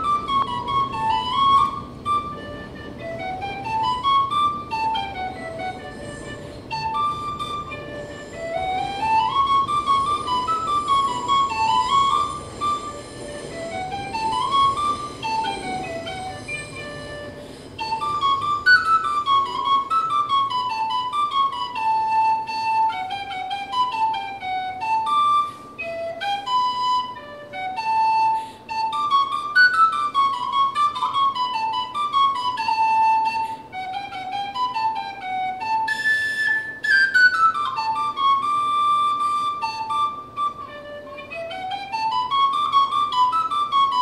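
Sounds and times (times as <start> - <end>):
tin whistle melody: 0.0 - 44.0.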